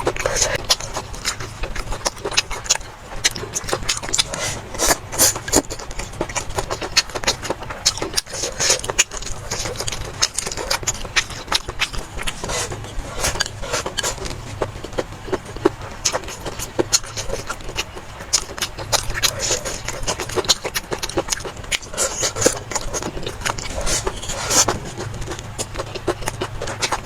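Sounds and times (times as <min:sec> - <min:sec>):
chewing and mouth smacks: 0:00.0 - 0:27.0
steady low hum: 0:00.0 - 0:27.0.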